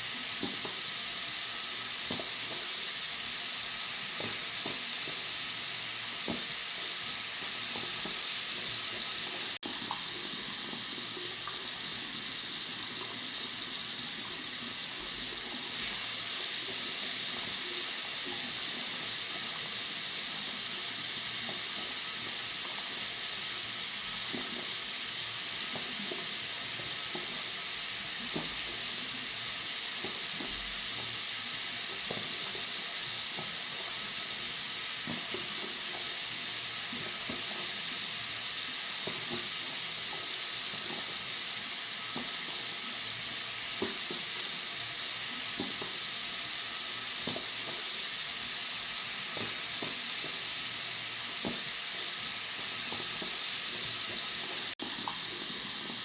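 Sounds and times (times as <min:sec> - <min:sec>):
water running from sink tap: 0:00.0 - 0:56.0.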